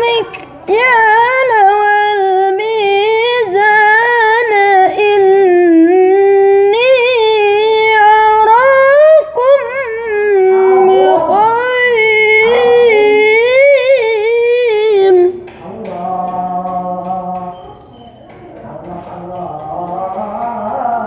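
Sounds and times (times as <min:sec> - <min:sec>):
boy reciting melodically: 0:00.0 - 0:21.0.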